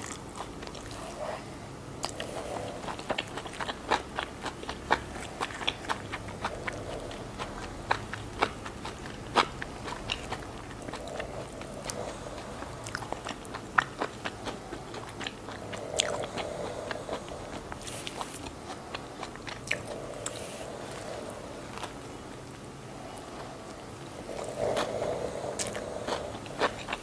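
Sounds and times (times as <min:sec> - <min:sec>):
chewing and biting food: 0:02.0 - 0:22.2, 0:23.1 - 0:27.0.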